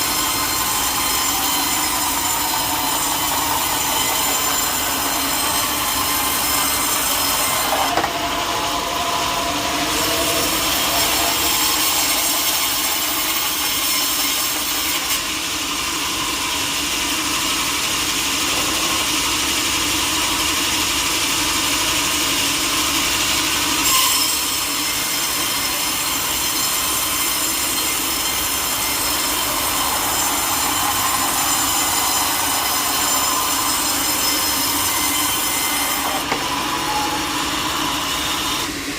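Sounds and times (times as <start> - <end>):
saw cutting wood: 0.0 - 38.9.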